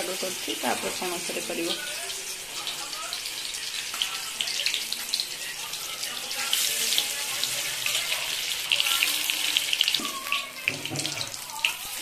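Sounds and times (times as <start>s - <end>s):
batter deep-frying in hot oil: 0.0s - 12.0s.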